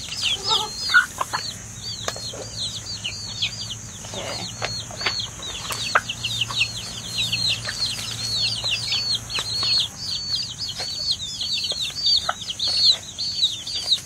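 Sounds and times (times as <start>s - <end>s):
baby chicks peeping: 0.0s - 14.0s.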